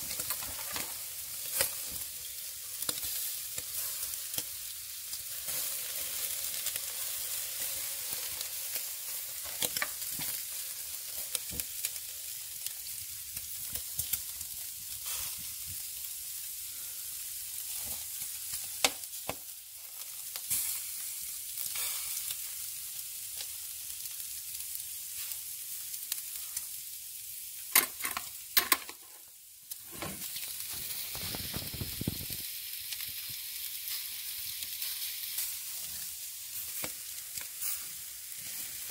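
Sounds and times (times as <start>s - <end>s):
embers crackling and popping: 0.0s - 38.9s
meat sizzling over embers: 0.0s - 38.9s.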